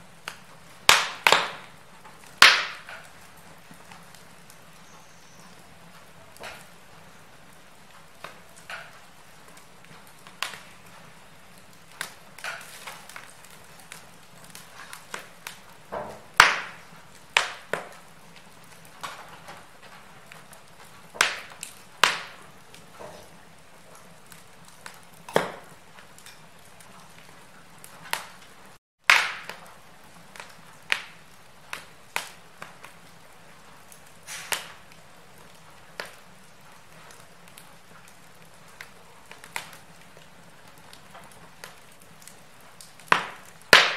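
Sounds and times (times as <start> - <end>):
faint steady hiss: 0.0 - 43.9
wood fire crackling: 0.0 - 43.9.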